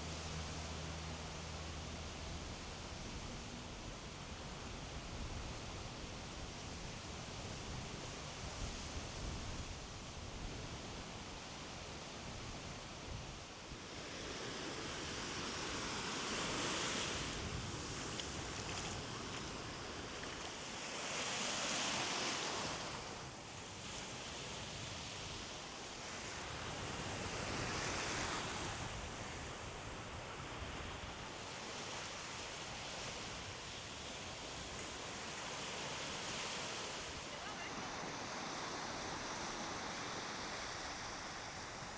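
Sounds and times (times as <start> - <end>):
sea breeze: 0.0 - 41.9
waves breaking on beach: 0.0 - 41.9.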